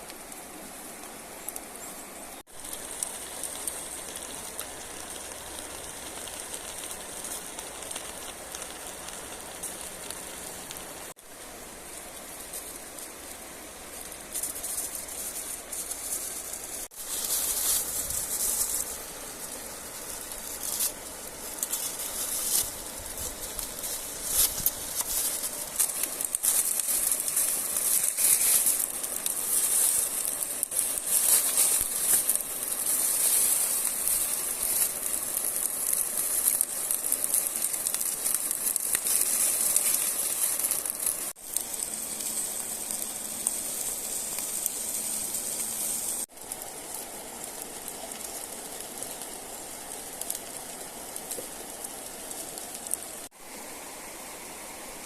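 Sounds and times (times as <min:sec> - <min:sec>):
food sizzling over open fire: 0:00.0 - 0:55.0.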